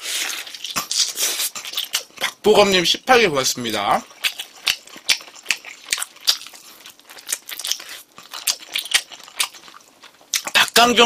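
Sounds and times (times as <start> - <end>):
crunchy chewing of fried chicken: 0.0 - 2.8, 3.6 - 10.8.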